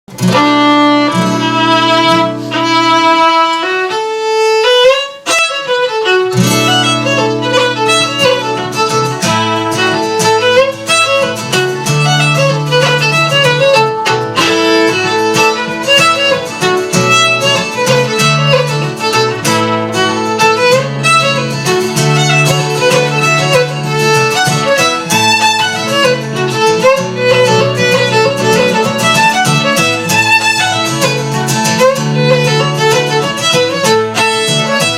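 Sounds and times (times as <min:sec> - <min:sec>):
fiddle playing fast tune: 0:00.1 - 0:34.9
guitar accompaniment: 0:00.1 - 0:34.9.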